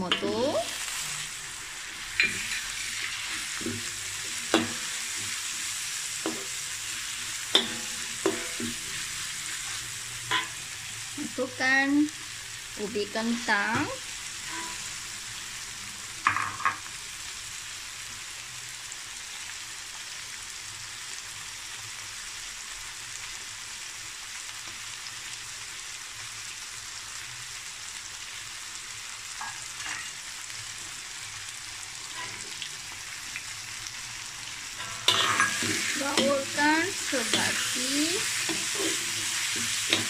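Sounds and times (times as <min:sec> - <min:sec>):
oil sizzling in a wok: 0:00.0 - 0:40.0.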